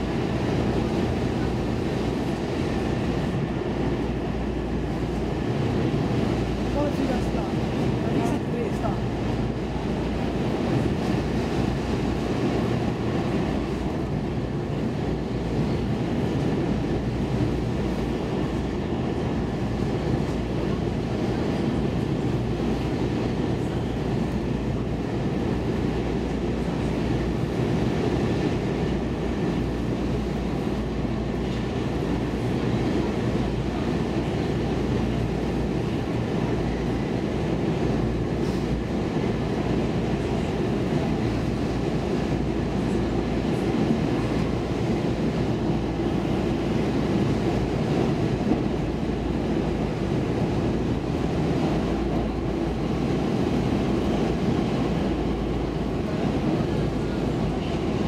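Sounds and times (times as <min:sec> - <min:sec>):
subway train rumbling on rails: 0:00.0 - 0:58.0.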